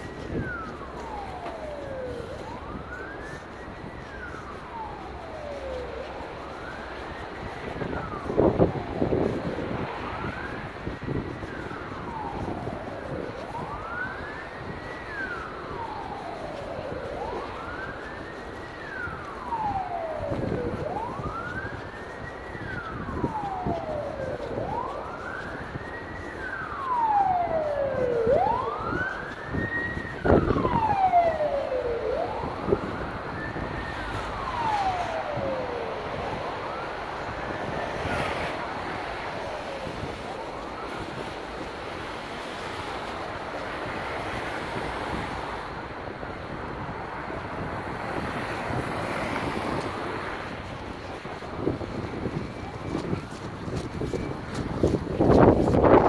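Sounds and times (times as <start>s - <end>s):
siren wailing: 0.0s - 56.0s.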